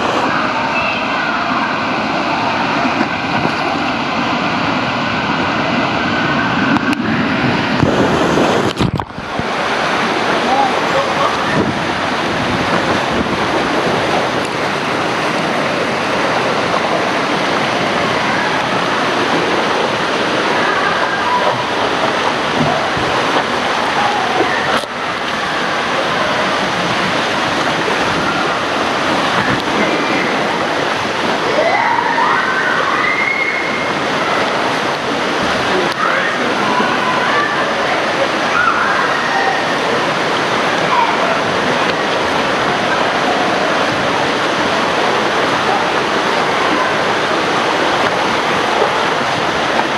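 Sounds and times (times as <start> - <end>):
water rushing and splashing: 0.0 - 49.9.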